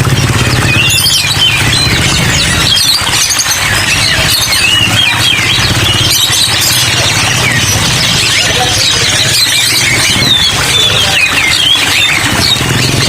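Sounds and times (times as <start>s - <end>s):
caged songbirds chirping: 0.0s - 13.0s.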